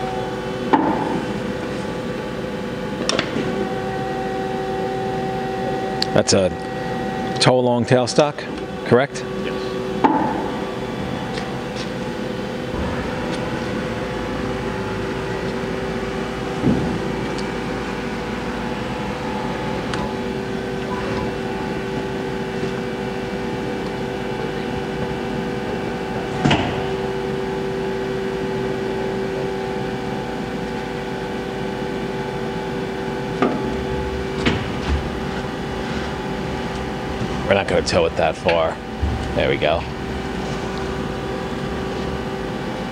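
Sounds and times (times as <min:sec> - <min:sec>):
machine hum with tones: 0:00.0 - 0:42.9.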